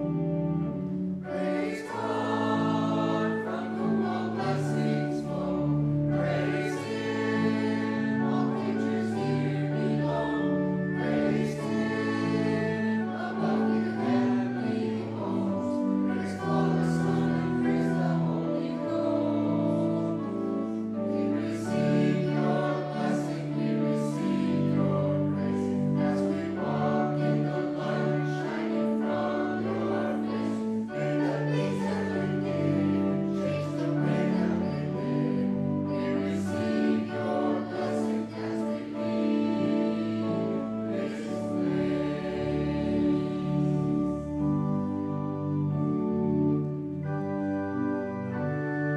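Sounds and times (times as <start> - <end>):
slow church music with choir: 0.0 - 48.9.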